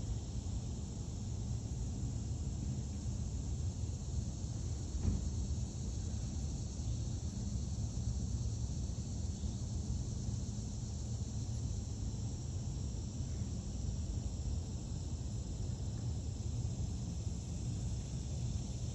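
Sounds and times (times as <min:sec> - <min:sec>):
constant low rumble: 0:00.0 - 0:18.9
high-pitched insect chorus: 0:00.0 - 0:18.9.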